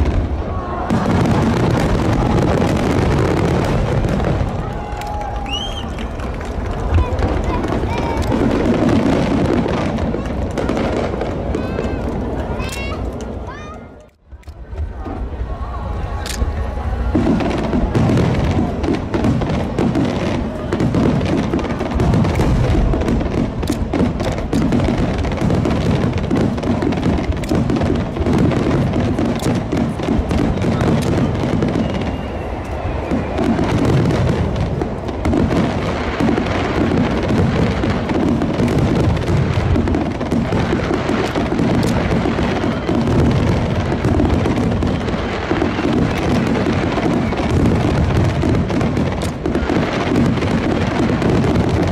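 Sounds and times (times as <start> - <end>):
firework shells booming: 0.0 - 13.5, 16.3 - 51.9
firework crackling: 0.0 - 51.9.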